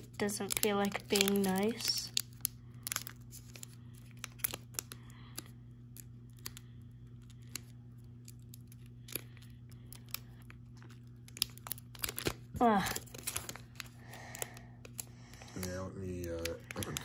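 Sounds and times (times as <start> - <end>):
steady low hum: 0.0 - 17.0
wrapper crinkling: 0.0 - 17.0.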